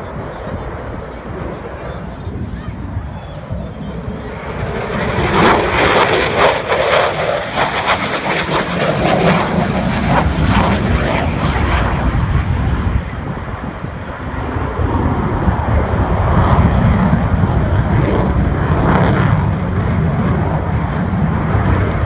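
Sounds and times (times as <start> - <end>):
jet roaring past: 0.0 - 22.0.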